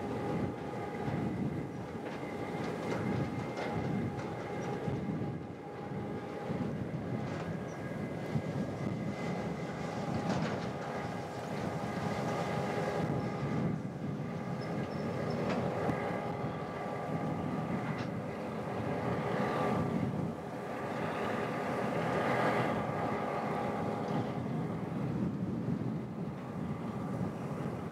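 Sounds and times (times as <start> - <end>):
diesel locomotive engine drone: 0.0 - 27.9
wind rumbling on microphone: 0.0 - 27.9.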